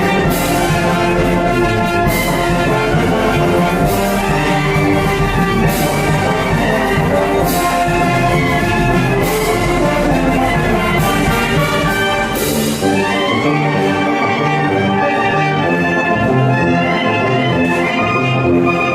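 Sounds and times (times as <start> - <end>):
brass ensemble music: 0.0 - 18.9.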